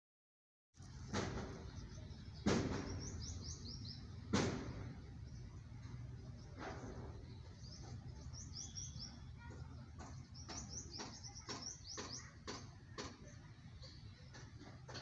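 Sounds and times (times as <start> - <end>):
small birds chirping: 0.8 - 15.0.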